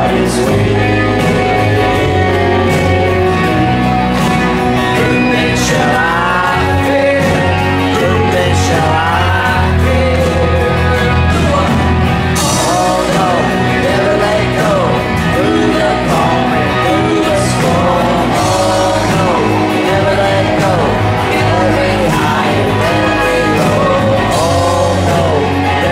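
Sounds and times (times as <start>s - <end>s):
band accompaniment with bass: 0.0s - 25.9s
person singing: 0.0s - 25.9s.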